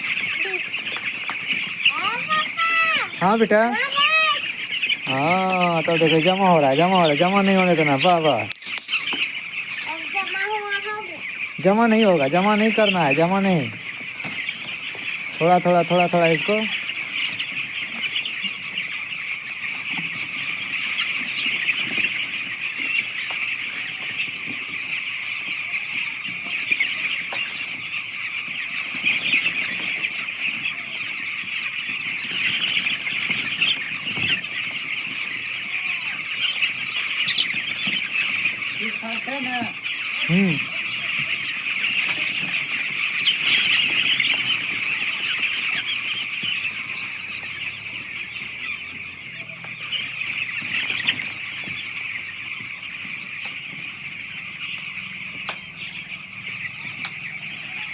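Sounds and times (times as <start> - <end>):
chicks peeping: 0.0 - 57.9.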